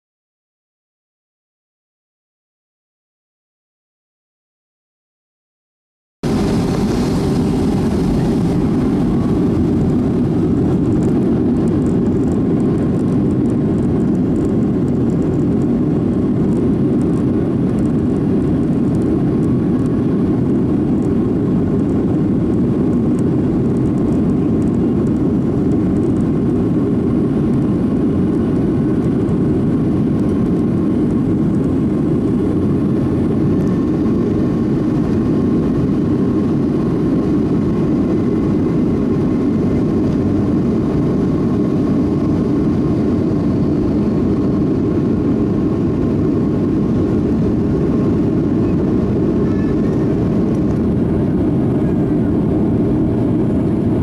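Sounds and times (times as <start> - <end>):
faint steady whine: 6.2 - 54.0
jet engine and airflow rush: 6.2 - 54.0.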